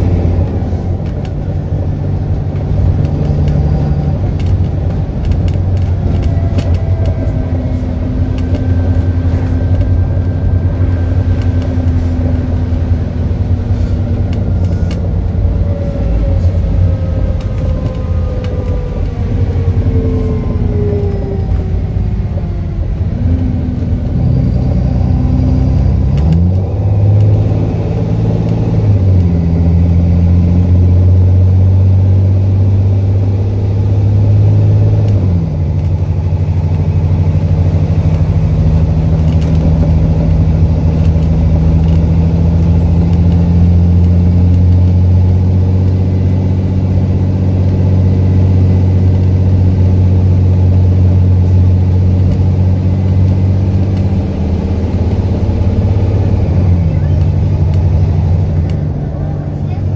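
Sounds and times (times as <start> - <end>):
bus diesel engine with blown exhaust: 0.0 - 59.9.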